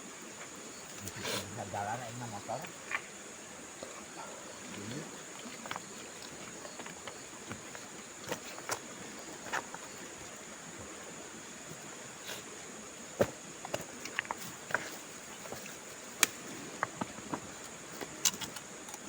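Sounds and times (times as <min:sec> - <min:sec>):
crickets droning: 0:00.0 - 0:19.0.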